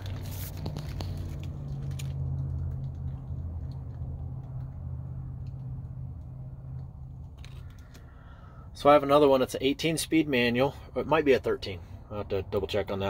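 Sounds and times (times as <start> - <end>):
road noise rumble in truck cab: 0.0 - 13.0.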